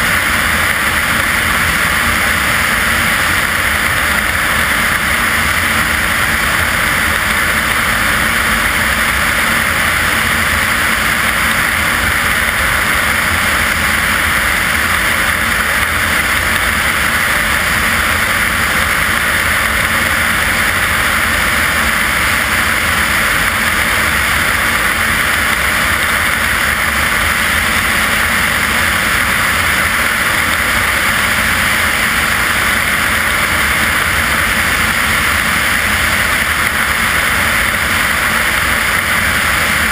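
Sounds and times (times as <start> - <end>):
propeller aircraft engine droning: 0.0 - 39.9.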